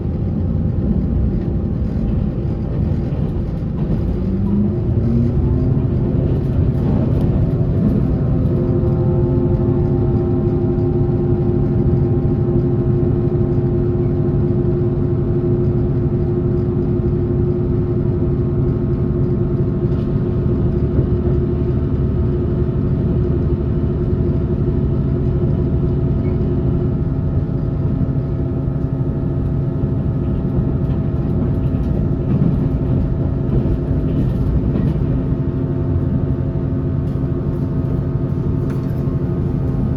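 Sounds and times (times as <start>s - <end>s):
train drive humming tones: 0.0s - 39.9s
train wheels rumbling on track: 0.0s - 39.9s.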